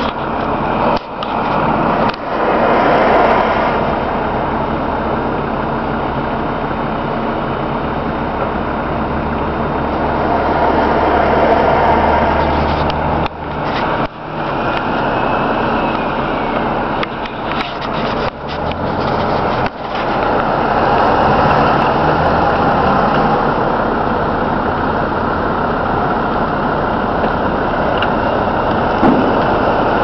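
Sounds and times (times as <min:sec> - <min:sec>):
road noise: 0:00.0 - 0:30.0
truck engine rumble: 0:00.0 - 0:30.0.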